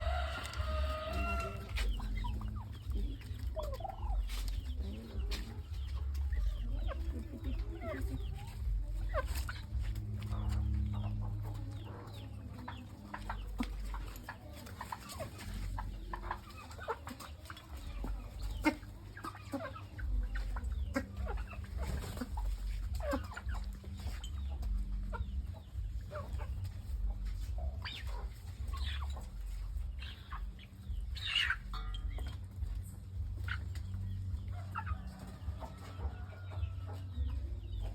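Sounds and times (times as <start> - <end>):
chickens clucking: 0.0 - 37.9
steady low rumble: 0.0 - 37.9.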